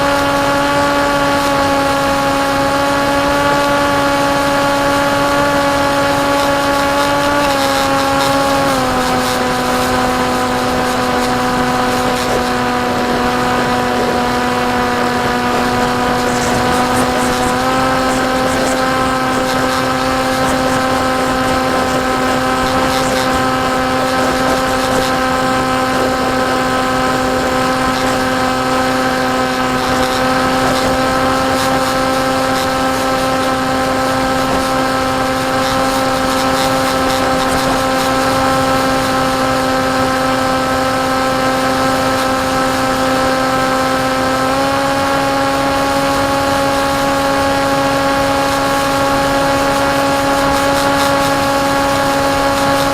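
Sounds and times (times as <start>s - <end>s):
electric motor and propeller hum: 0.0s - 52.9s.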